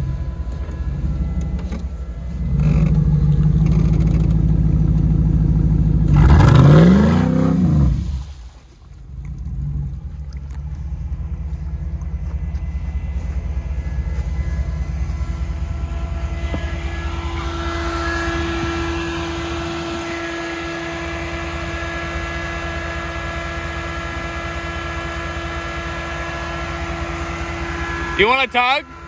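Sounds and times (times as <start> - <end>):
car engine rumbling: 0.0 - 29.0
steady whine: 0.0 - 29.0.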